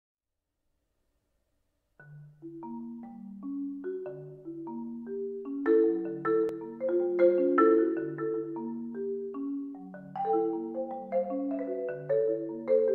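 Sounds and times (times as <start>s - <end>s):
marimba slow sustained notes: 2.0s - 12.9s.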